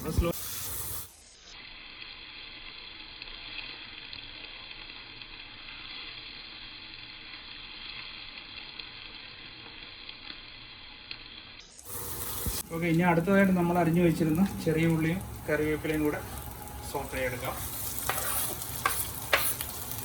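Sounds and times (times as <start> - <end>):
aromatics sizzling in hot oil: 0.0 - 20.0.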